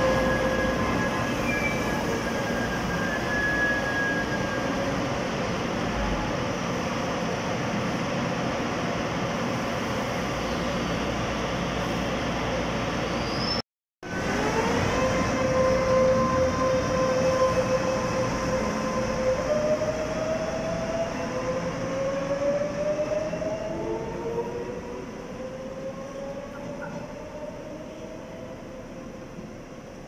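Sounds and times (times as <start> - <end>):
train running on rails: 0.0 - 30.0.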